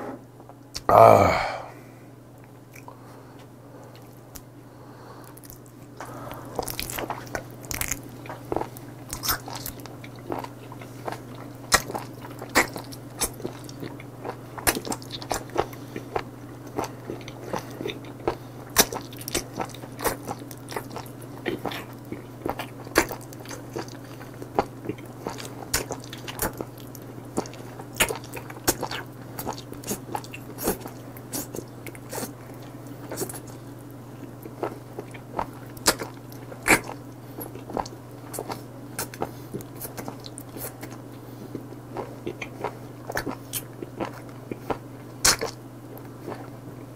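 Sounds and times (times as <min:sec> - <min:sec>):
steady low hum: 0:00.0 - 0:46.9
wet chewing clicks and smacks: 0:06.6 - 0:33.6, 0:34.2 - 0:46.5.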